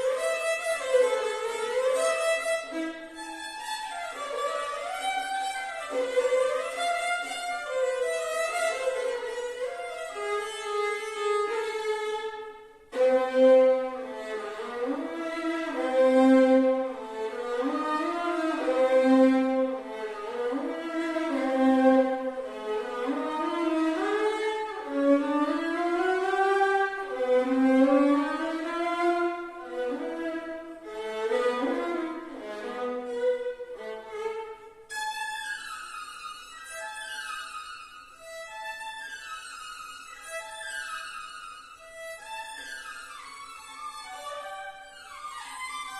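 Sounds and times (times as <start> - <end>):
violin playing slow melody: 0.0 - 45.9.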